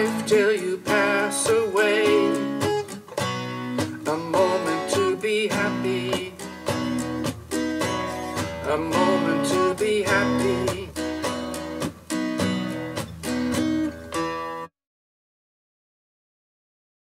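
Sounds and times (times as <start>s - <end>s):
acoustic guitar chords: 0.0s - 14.7s.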